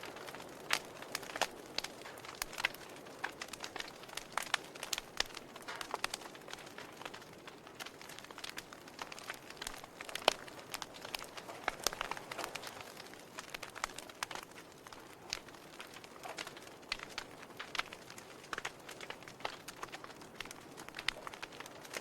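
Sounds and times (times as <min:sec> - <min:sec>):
soft steady hiss: 0:00.0 - 0:22.0
wood fire crackling and popping: 0:00.0 - 0:22.0.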